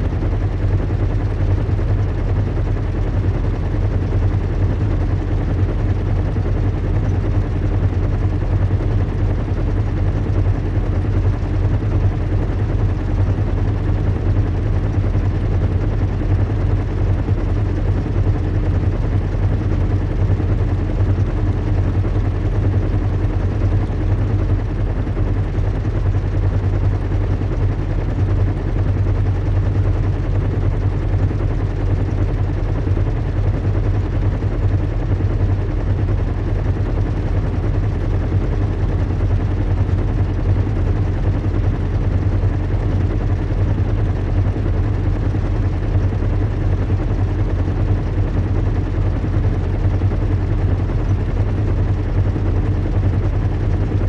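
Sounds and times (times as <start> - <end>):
engines humming and rumbling: 0.0 - 54.0.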